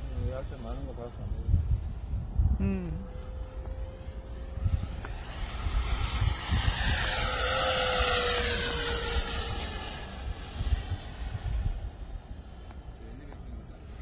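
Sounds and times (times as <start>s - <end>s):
model jet fan whine passing: 0.0s - 14.0s.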